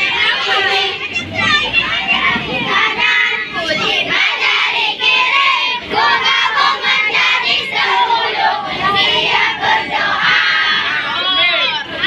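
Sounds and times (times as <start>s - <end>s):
children singing loudly: 0.0s - 12.0s.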